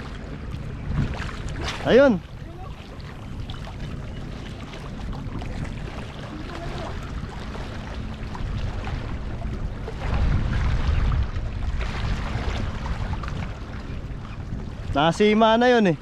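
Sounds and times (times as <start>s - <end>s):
sea waves washing: 0.0s - 16.0s
wind on microphone: 0.0s - 16.0s.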